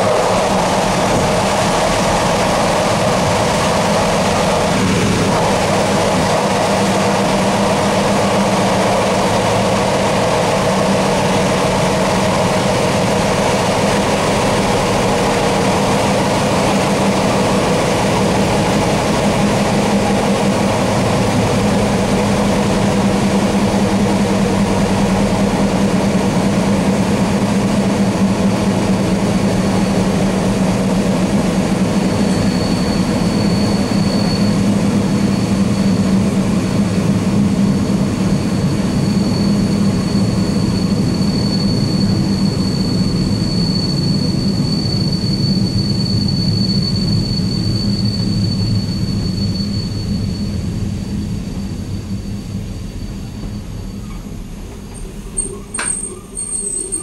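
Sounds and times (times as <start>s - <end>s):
high whine: 0.0s - 57.0s
train running noise: 0.0s - 57.0s.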